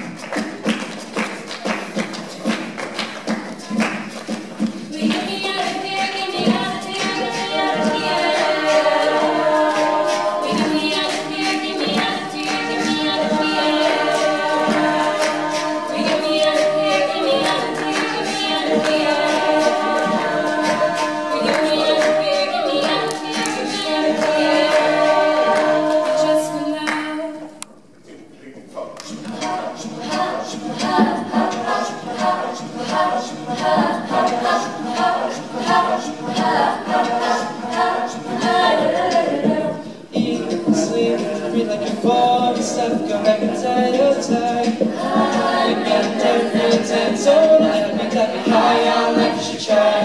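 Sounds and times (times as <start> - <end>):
steady beat: 0.0 - 26.8, 29.1 - 50.0
group singing in harmony: 0.0 - 27.6, 29.0 - 50.0.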